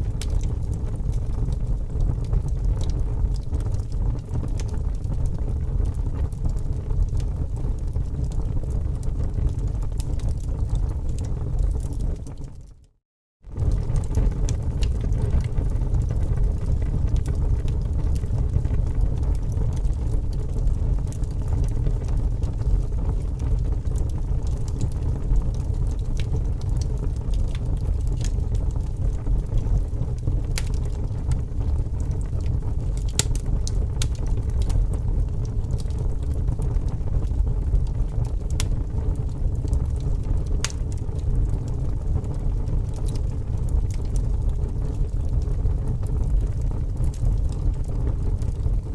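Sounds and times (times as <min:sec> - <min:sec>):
wood fire roaring: 0:00.0 - 0:12.8, 0:13.4 - 0:48.9
fire crackling and popping: 0:00.0 - 0:48.9.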